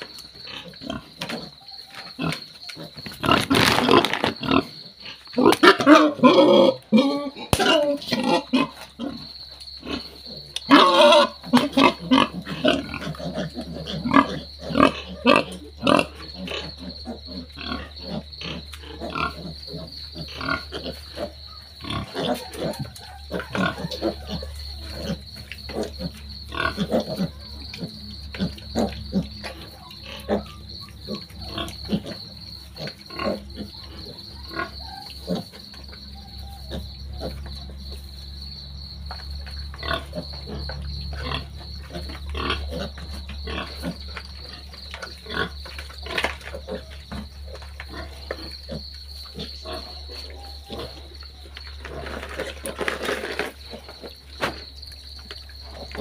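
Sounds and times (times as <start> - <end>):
cricket trill: 0.0 - 56.0
piglets grunting and squealing: 0.4 - 37.8, 39.7 - 54.0.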